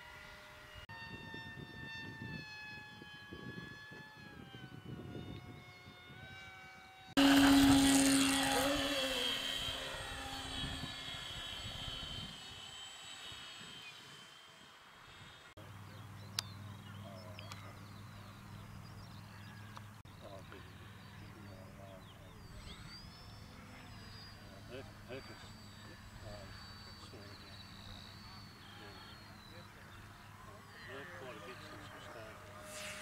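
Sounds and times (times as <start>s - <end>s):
model airplane motor and propeller: 0.0s - 33.0s.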